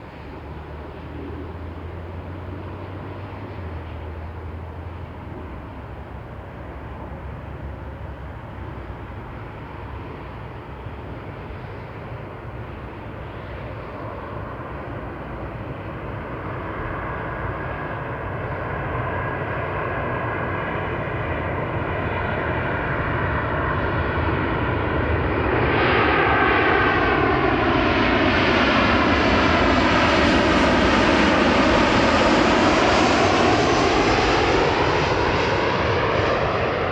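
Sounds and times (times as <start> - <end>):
airliner engine whine: 0.0 - 36.9.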